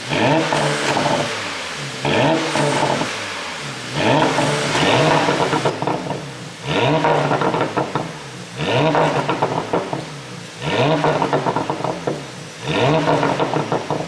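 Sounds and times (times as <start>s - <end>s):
car engine revving: 0.0s - 14.0s
exhaust crackling: 0.0s - 14.0s.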